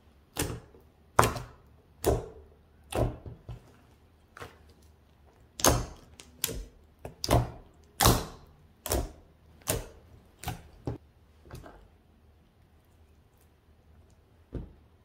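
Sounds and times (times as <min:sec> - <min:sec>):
slime squelching: 0:00.0 - 0:15.0.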